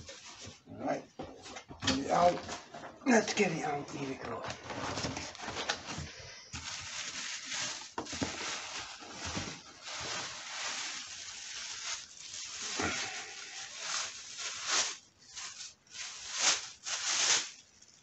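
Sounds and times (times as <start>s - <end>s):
cardboard and plastic rustling: 0.0s - 18.0s.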